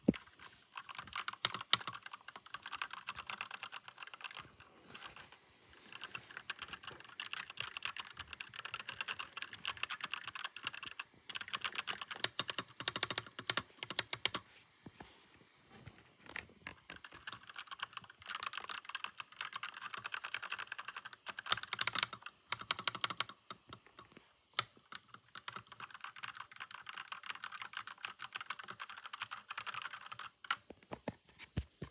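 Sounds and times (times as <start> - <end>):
clicky mechanical keyboard typing: 0.0 - 14.4, 16.3 - 30.8.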